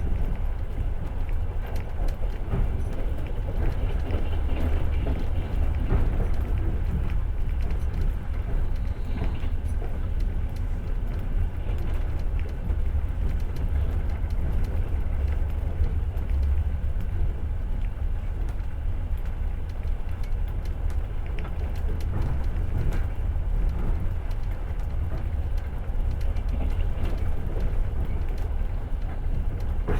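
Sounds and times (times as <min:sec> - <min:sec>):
faint rail clicks: 0:00.0 - 0:29.9
train rumbling on rails: 0:00.0 - 0:29.9.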